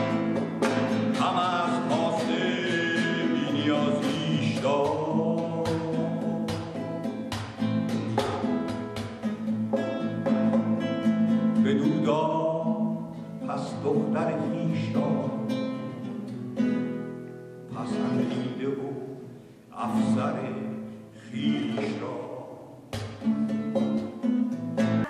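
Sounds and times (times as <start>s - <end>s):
man singing: 0.0s - 8.9s, 10.8s - 16.6s, 17.7s - 23.0s
acoustic guitar strumming: 0.0s - 25.0s.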